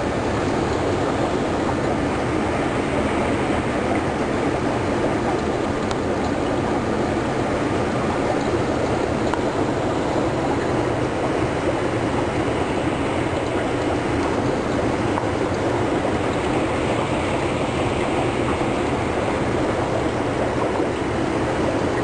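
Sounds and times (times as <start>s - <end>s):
aquarium water circulating: 0.0s - 22.0s.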